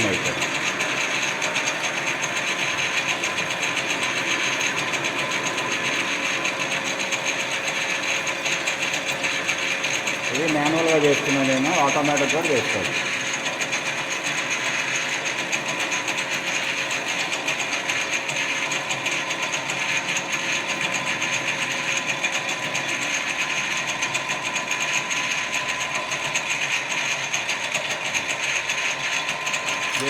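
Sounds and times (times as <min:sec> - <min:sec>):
metal lathe whirring: 0:00.0 - 0:30.0.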